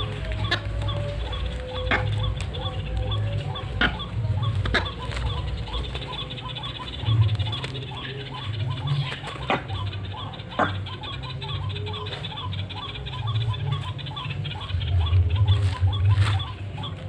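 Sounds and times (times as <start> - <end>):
bird rising chirps: 0.0 - 17.0.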